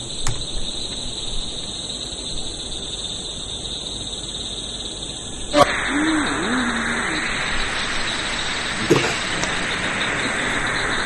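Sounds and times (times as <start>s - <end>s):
night insects buzzing: 0.0s - 11.0s.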